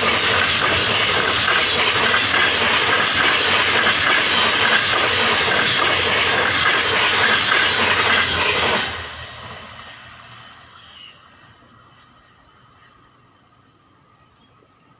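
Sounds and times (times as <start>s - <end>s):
train running on tracks: 0.0s - 14.9s.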